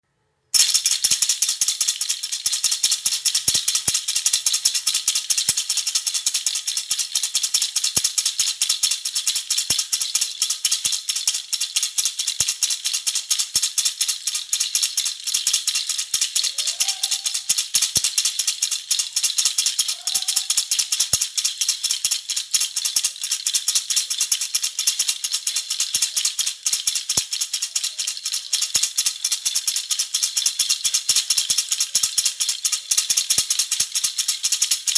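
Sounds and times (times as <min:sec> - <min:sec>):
baby rattle shaken: 0:00.6 - 0:34.9.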